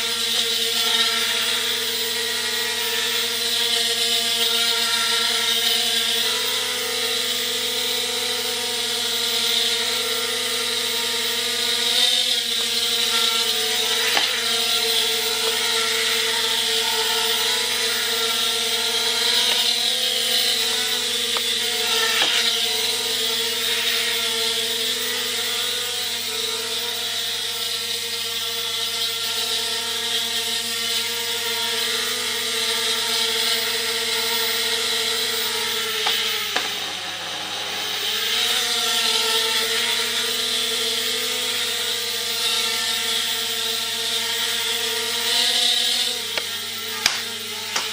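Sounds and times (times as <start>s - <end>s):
toy quadcopter propellers whining: 0.0s - 47.9s.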